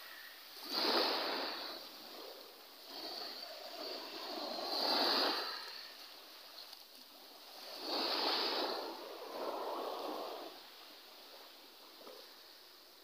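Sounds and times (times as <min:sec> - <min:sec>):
waves washing on gravel beach: 0:00.6 - 0:12.8.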